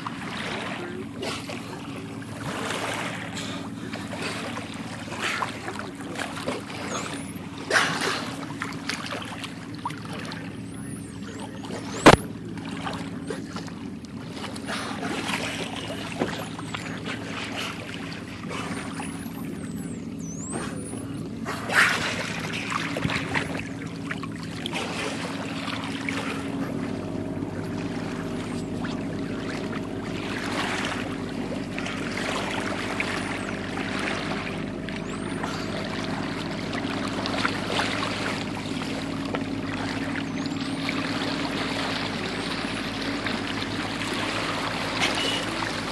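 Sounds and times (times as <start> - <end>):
low engine hum: 0.0 - 45.9
water splashing along boat hull: 0.0 - 45.9.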